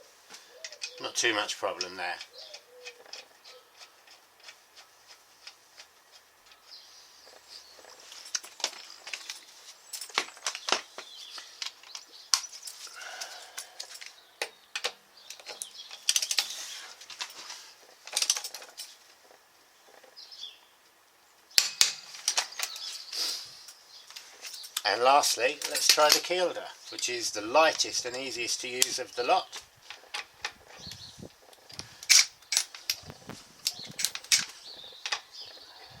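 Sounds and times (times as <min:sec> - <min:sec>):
sharp clicks and rattles: 0:00.6 - 0:12.9, 0:13.6 - 0:20.1, 0:24.1 - 0:35.6
metal tools clinking: 0:00.6 - 0:14.2, 0:15.3 - 0:19.0, 0:21.6 - 0:33.0, 0:33.6 - 0:35.4.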